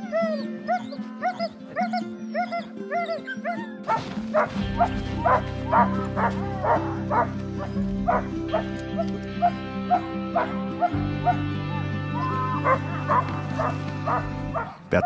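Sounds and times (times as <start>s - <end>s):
sled dogs yelping and whining: 0.0s - 14.8s
dogs barking: 0.0s - 14.9s
background music: 0.0s - 15.0s
outdoor noise: 0.0s - 15.0s.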